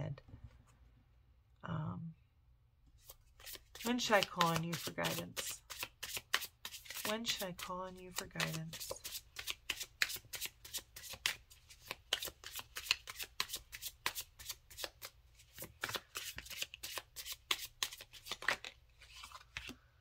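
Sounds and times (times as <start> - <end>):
cards shuffling with sharp snaps: 3.0 - 19.8.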